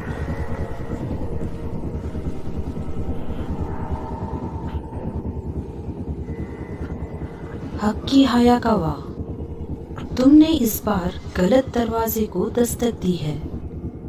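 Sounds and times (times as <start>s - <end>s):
low fluttering rumble: 0.0s - 14.0s.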